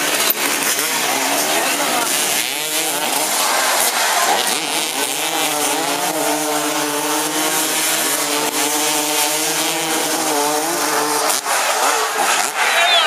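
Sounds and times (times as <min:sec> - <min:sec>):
small engines revving: 0:00.0 - 0:13.0.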